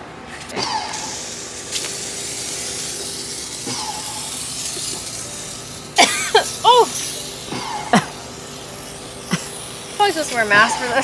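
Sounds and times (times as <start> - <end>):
aerosol can spraying hiss: 0.9 - 11.0.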